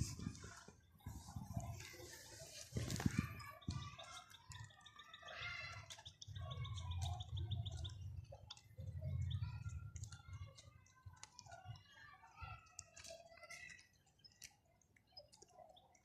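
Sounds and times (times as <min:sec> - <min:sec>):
parrots chirping and clicking: 0:02.6 - 0:16.0.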